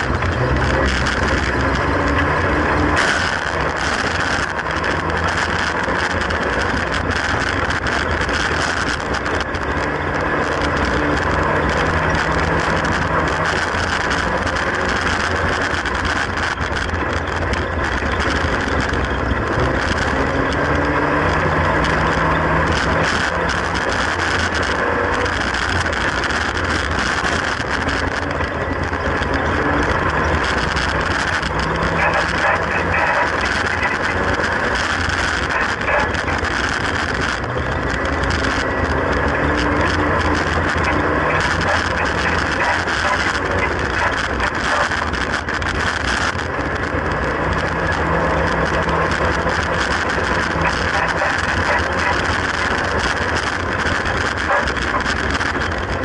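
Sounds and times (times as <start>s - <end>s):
racing car engine revving: 0.0s - 56.0s
road and wind noise: 0.0s - 56.0s.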